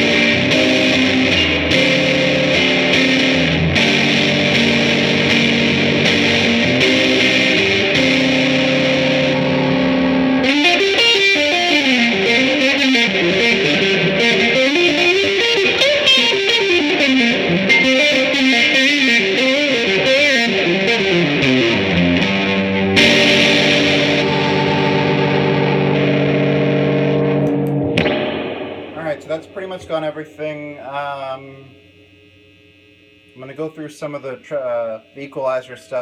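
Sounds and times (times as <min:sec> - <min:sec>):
distorted electric guitar chords: 0:00.0 - 0:36.0
electric guitar lead line: 0:00.0 - 0:36.0.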